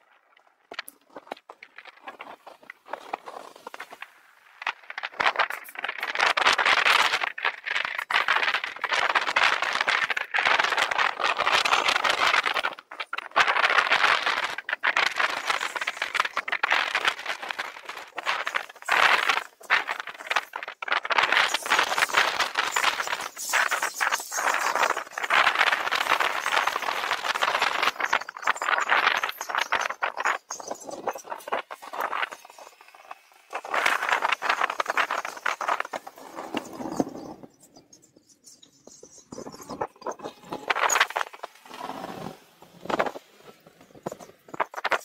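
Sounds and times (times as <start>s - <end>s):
wind and road noise: 0.1s - 45.0s.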